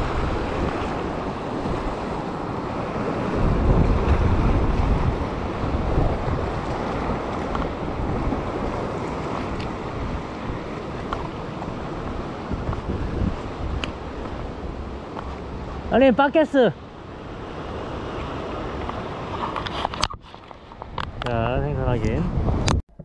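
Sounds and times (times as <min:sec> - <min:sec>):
wind buffeting the microphone: 0:00.0 - 0:16.0, 0:16.9 - 0:22.9
surf breaking on rocks: 0:00.0 - 0:19.3.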